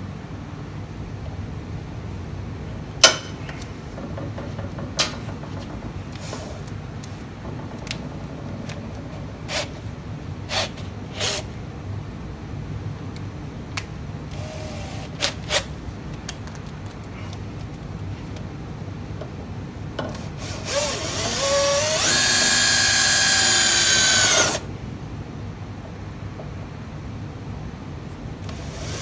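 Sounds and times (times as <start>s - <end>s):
low shop hum: 0.0s - 29.0s.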